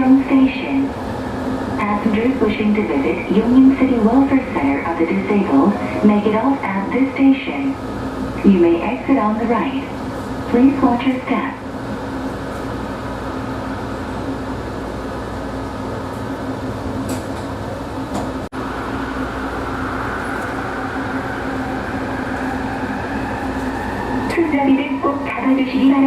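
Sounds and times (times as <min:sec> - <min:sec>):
train car hum: 0:00.0 - 0:26.0.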